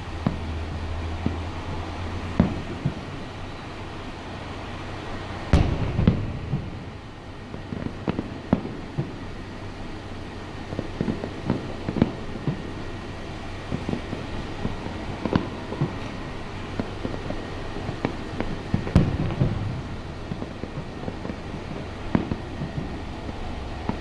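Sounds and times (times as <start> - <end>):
fireworks bangs and booms: 0.0 - 24.0.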